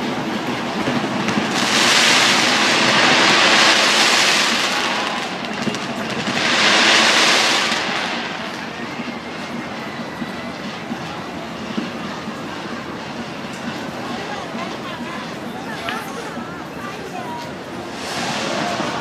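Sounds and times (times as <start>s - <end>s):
fireworks hissing: 0.0s - 19.0s
steady background din: 0.0s - 19.0s.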